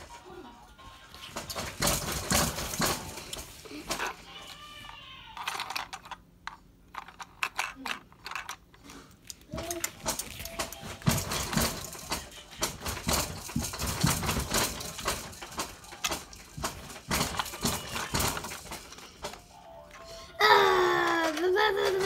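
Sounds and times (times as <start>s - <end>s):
plastic toy train cars clicking: 1.4s - 19.5s.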